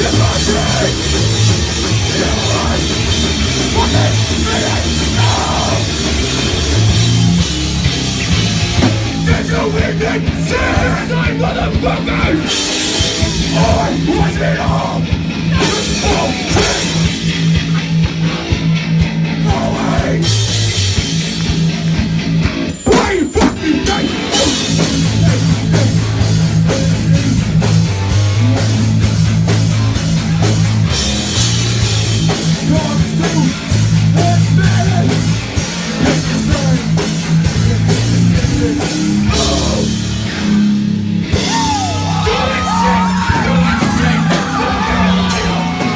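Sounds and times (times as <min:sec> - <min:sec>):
punk band playing live: 0:00.0 - 0:45.9.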